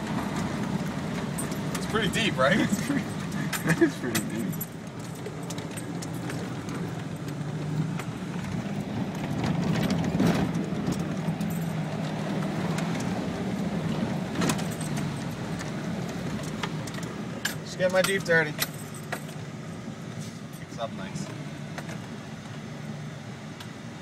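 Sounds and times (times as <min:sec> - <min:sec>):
car engine under throttle: 0:00.0 - 0:24.0.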